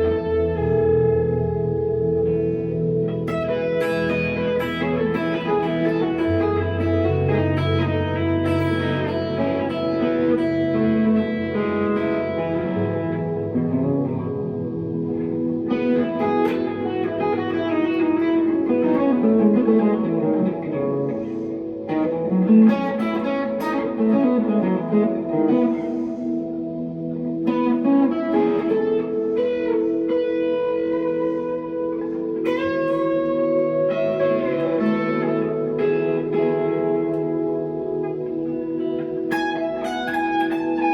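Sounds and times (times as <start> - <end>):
electric guitar with delay and reverb: 0.0 - 40.9.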